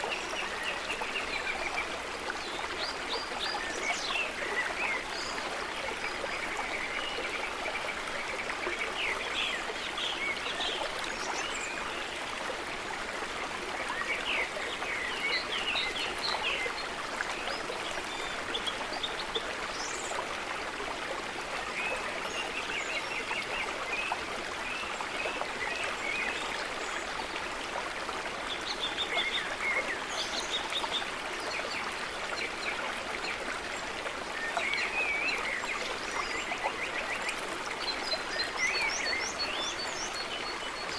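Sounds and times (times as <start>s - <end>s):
stream running: 0.0s - 40.9s.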